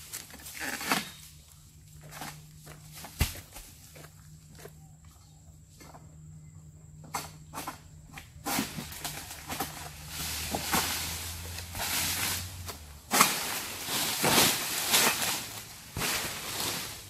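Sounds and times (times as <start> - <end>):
palm fronds rustling and crunching: 0.0 - 4.7, 7.5 - 17.0.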